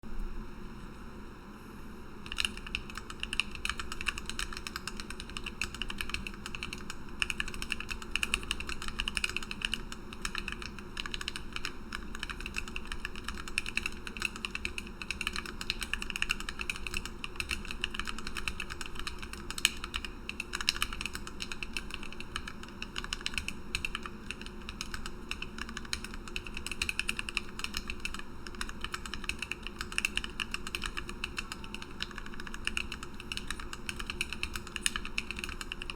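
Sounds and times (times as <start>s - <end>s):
faint steady hum: 0.0s - 35.9s
mechanical keyboard typing: 2.2s - 35.9s.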